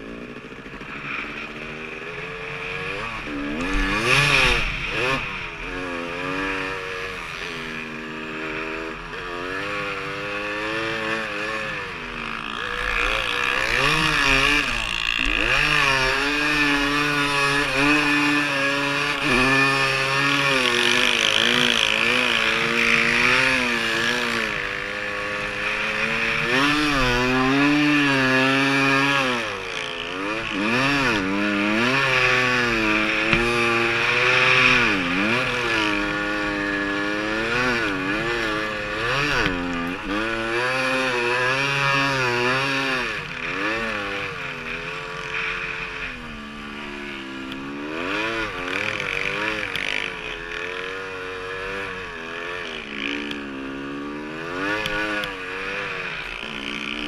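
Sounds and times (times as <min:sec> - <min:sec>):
snow bike engine revving: 0:00.0 - 0:57.0.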